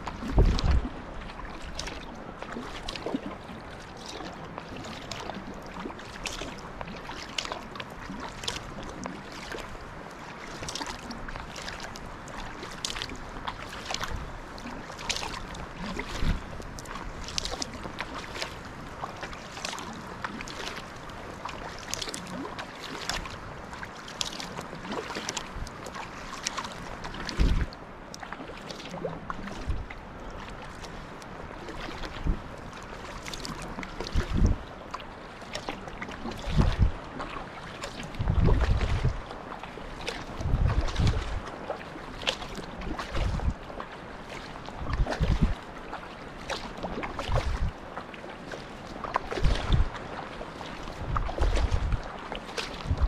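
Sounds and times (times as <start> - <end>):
kayak paddle splashes: 0.0 - 53.0
water washing along hull: 0.0 - 53.0.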